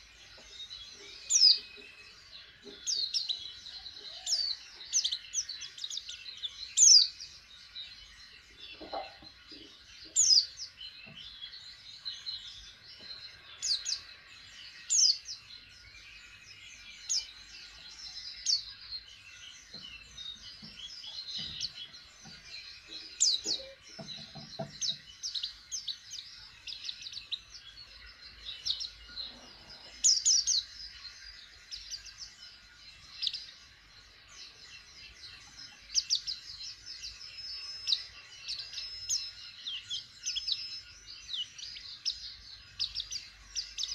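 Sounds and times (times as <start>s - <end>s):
bird chirping and tweeting: 0.0s - 43.9s.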